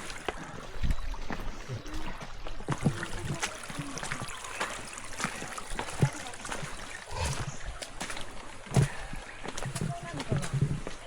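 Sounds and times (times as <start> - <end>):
footsteps on a trail: 0.0 - 11.0
stream trickling: 0.0 - 11.0.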